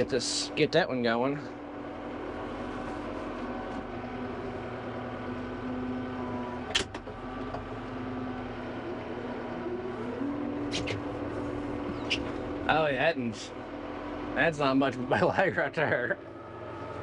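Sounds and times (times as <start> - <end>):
tractor diesel engine from cab: 0.0 - 17.0.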